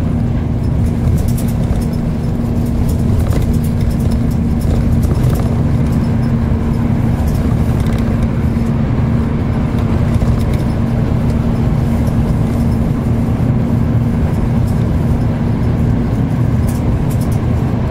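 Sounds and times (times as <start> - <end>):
constant low hum: 0.0 - 17.9
vehicle driving on highway: 0.0 - 17.9.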